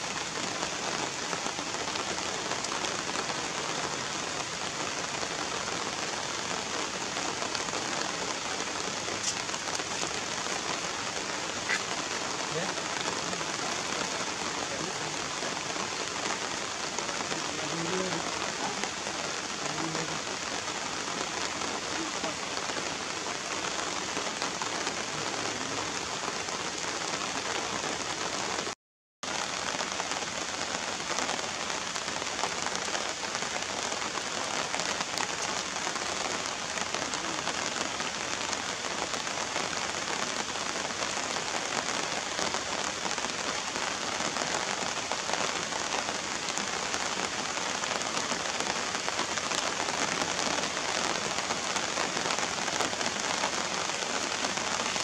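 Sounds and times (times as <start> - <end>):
rain falling on puddles: 0.0 - 55.0.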